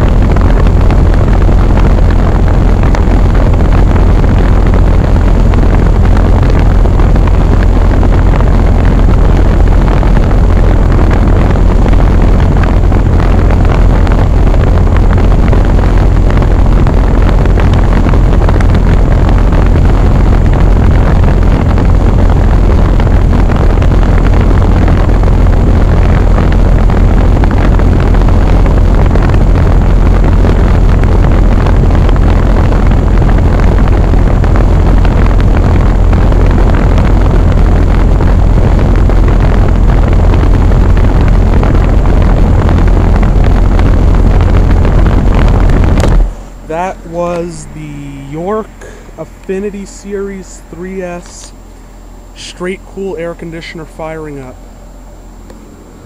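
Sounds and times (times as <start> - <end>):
air conditioner fan rushing air: 0.0 - 56.0
low steady hum: 0.0 - 56.0.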